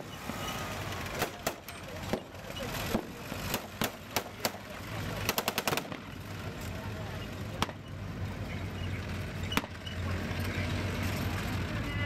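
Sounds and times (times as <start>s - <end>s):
low rumble of vehicle engines: 0.0s - 12.0s.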